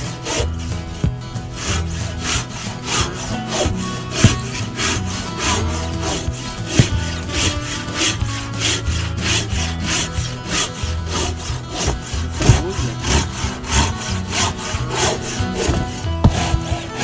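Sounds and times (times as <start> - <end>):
hand saw cutting wood: 0.0 - 17.0.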